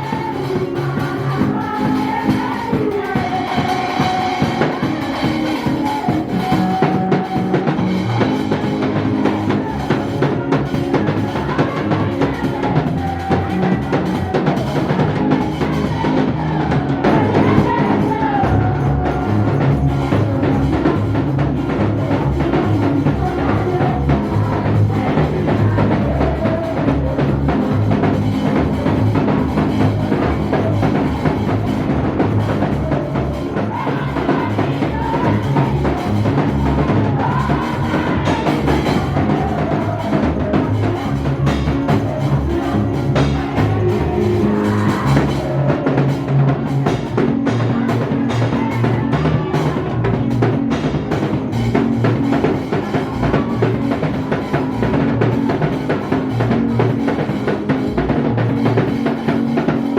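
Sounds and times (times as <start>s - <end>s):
drum kit steady beat: 0.0s - 59.9s.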